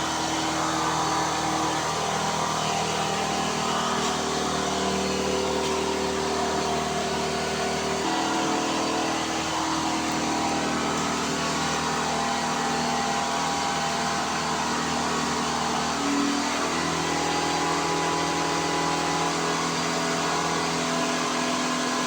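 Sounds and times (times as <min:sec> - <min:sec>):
printer hum: 0:00.0 - 0:18.7
stepper motors whining: 0:00.0 - 0:22.0.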